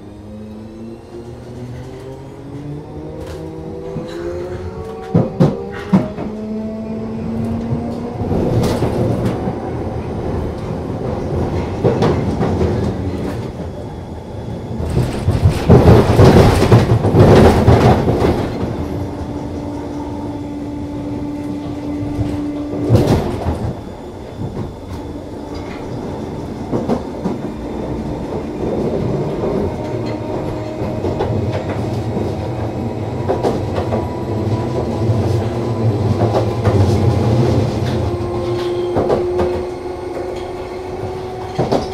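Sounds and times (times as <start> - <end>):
train hum: 0.0 - 41.9
wheels clattering on rails: 1.6 - 13.8, 14.7 - 20.1, 21.4 - 41.9.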